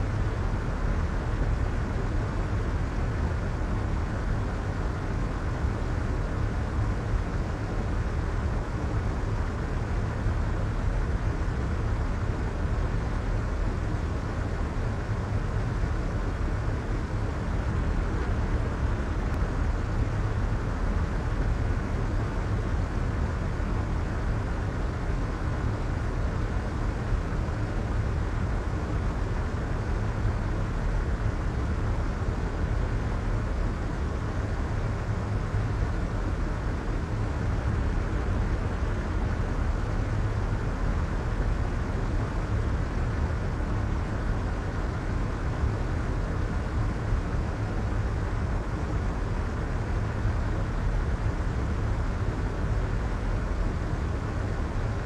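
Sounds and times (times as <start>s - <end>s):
muffled white noise hiss: 0.0s - 55.0s.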